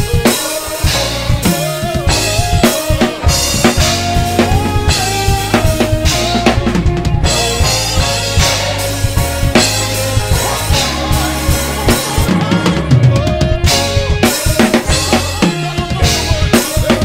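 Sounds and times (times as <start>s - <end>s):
acoustic drum kit: 0.0s - 17.0s
recorded gospel song: 0.0s - 17.0s.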